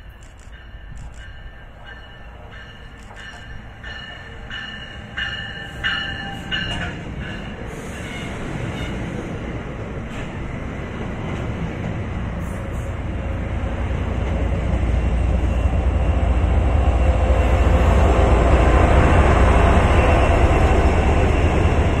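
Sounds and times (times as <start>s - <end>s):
diesel locomotives passing: 0.0s - 22.0s
train coaches rumbling past: 0.0s - 22.0s.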